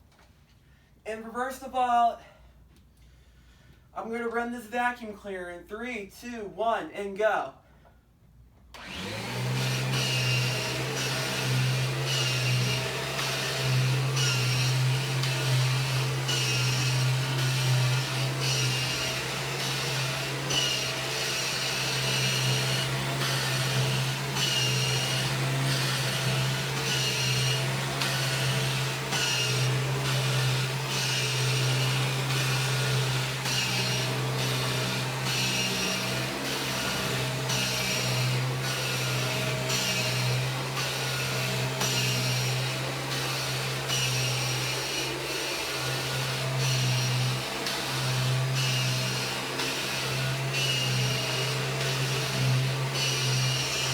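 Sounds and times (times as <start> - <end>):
vacuum cleaner motor drone: 8.8 - 53.9
vacuum hiss over carpet: 8.8 - 53.9.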